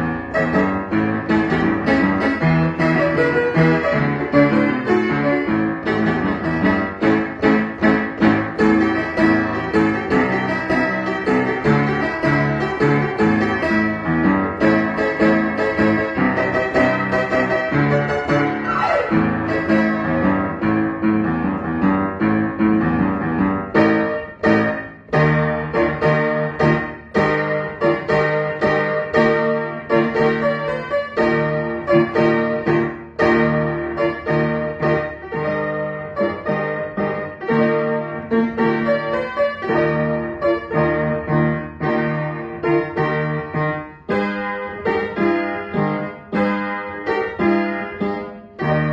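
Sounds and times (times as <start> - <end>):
upright piano playing pop tune: 0.0 - 48.9.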